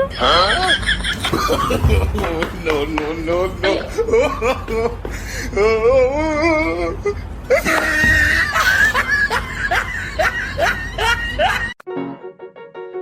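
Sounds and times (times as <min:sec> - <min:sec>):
person laughing: 0:00.0 - 0:11.8.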